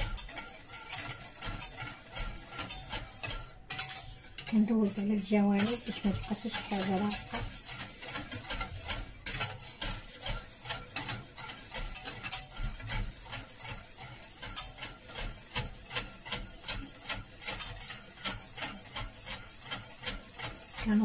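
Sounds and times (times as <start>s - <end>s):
spatula scraping steel pot: 0.0s - 21.0s.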